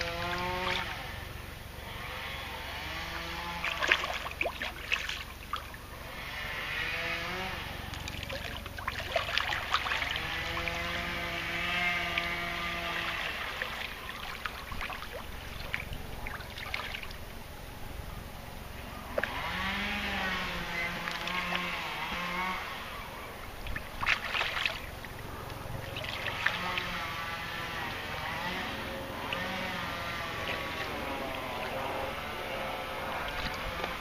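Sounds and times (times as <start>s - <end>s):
water sloshing and splashing: 0.0s - 1.2s, 2.9s - 17.5s, 19.1s - 34.0s
motorboat engine hum: 0.0s - 34.0s.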